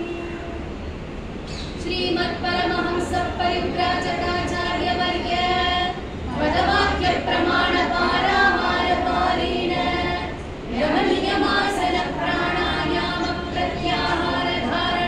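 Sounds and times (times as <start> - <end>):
women singing a hymn: 1.8 - 15.0.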